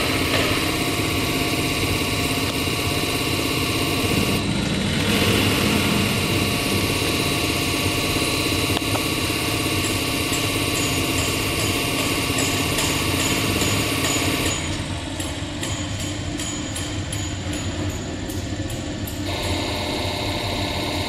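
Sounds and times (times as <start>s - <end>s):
test bench pump running: 0.0s - 21.0s.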